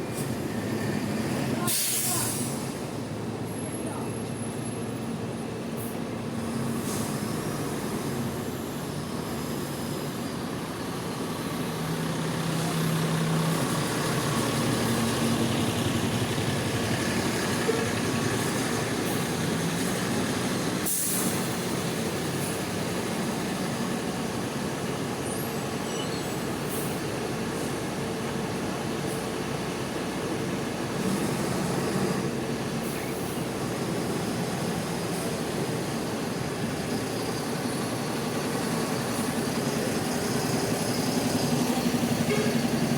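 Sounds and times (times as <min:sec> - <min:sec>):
diesel bus engines idling: 0:00.0 - 0:42.9.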